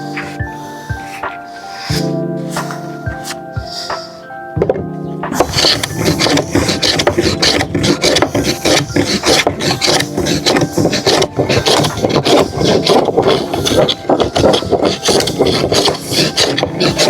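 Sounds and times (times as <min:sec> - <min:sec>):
hand tool rasping wood: 0:00.0 - 0:17.0.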